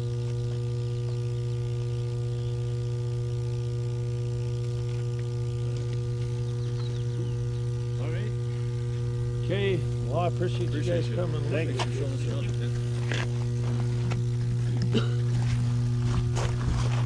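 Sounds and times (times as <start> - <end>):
transformer humming: 0.0 - 17.0.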